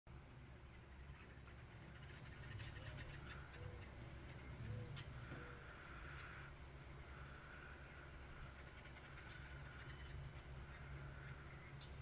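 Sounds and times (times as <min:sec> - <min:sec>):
crickets trilling: 0:00.1 - 0:12.0.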